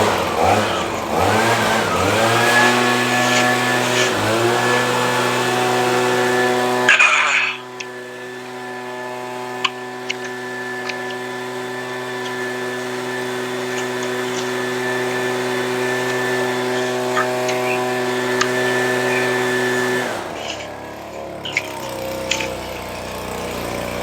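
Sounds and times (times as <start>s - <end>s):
leaf blower engine running: 0.0s - 24.0s.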